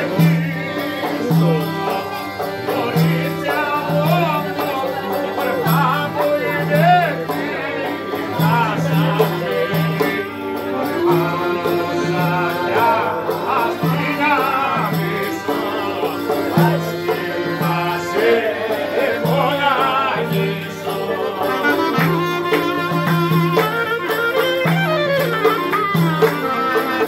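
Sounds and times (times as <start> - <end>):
clarinet playing folk dance tune: 0.0 - 27.0.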